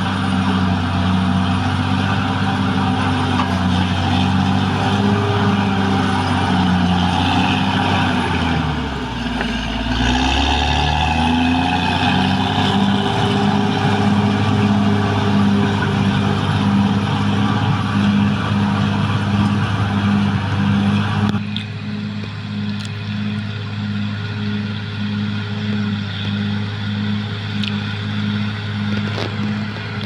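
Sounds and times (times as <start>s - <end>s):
bulldozer diesel engine: 0.0s - 30.0s.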